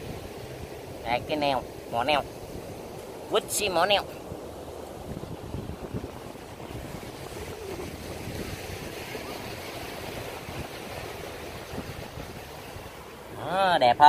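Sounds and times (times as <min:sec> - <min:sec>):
sea surf on sandy beach: 0:00.0 - 0:14.0
wind on microphone: 0:00.0 - 0:14.0.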